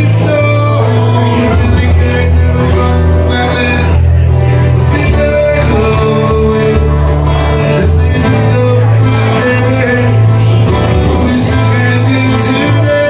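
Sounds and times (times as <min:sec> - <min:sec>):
amplified acoustic guitar: 0:00.0 - 0:13.0
person singing: 0:00.0 - 0:13.0
steady bass line: 0:00.0 - 0:13.0.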